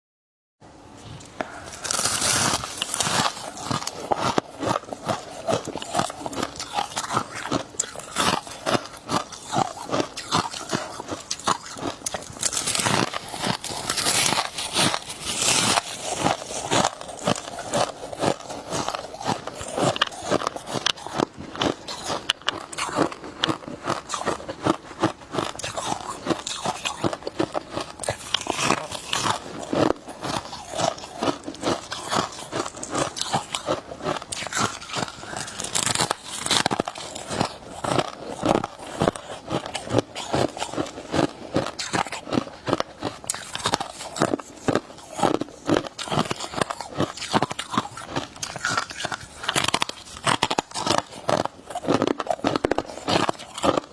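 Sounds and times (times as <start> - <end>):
chewing ice crunches: 1.4 - 53.9.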